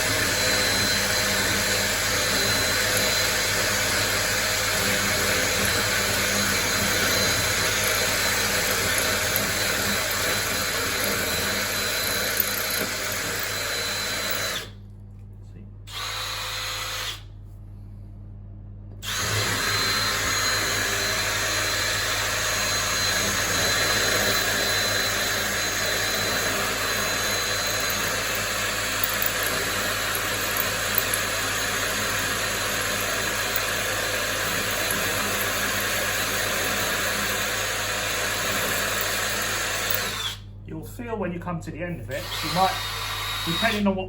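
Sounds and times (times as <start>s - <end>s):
power drill grinding into tile: 0.0s - 14.8s, 15.9s - 17.3s, 19.0s - 40.4s, 42.2s - 43.9s.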